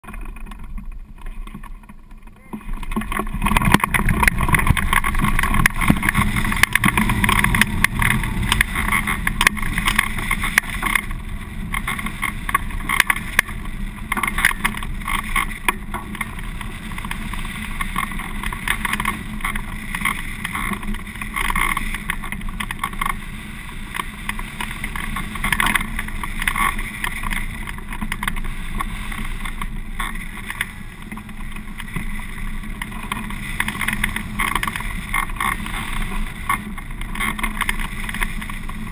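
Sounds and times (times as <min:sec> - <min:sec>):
wind rushing over microphone: 0:02.5 - 0:38.9.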